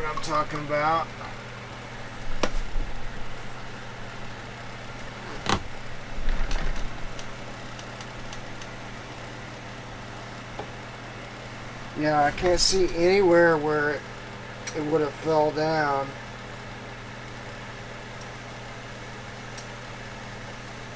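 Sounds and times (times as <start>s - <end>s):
fan humming: 0.0s - 20.9s.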